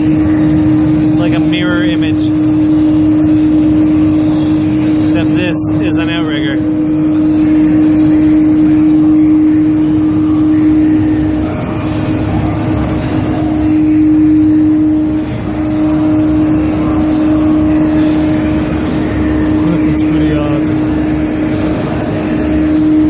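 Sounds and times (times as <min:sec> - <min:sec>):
loud machine drone: 0:00.0 - 0:23.0
low rumble: 0:00.0 - 0:23.0.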